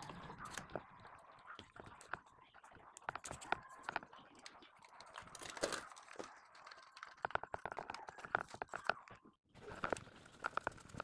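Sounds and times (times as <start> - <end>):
clicks and taps handling wires: 1.5 - 11.0.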